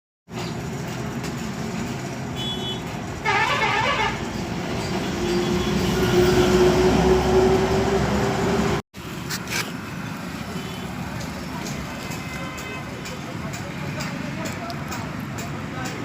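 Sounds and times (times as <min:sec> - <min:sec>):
traffic engines running: 0:00.3 - 0:16.0.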